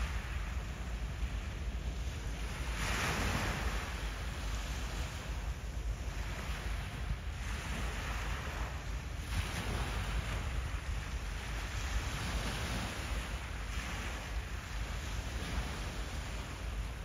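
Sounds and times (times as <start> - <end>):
steady low rumble: 0.0 - 17.0
waves washing in: 0.0 - 17.0.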